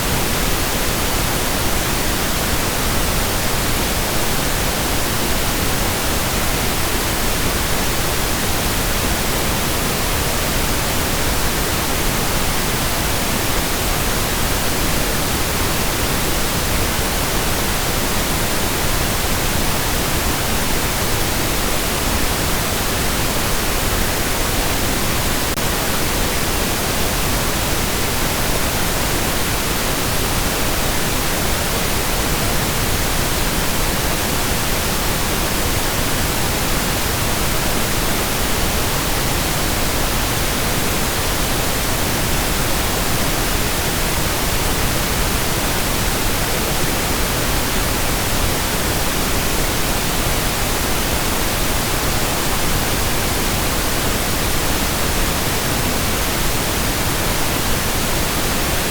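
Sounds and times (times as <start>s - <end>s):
steady pink noise hiss: 0.0s - 58.9s.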